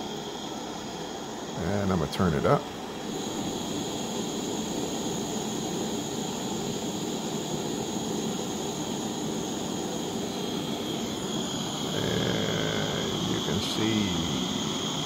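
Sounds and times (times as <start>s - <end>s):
butane torch flame hissing: 0.0s - 15.0s.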